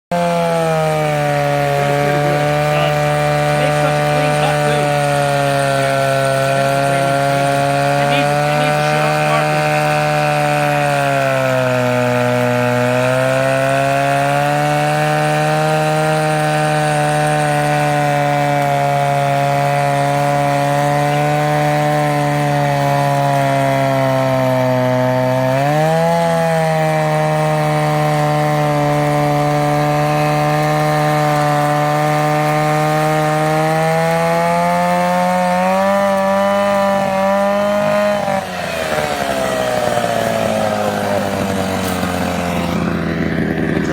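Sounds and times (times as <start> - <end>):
chainsaw cutting: 0.1 - 43.9.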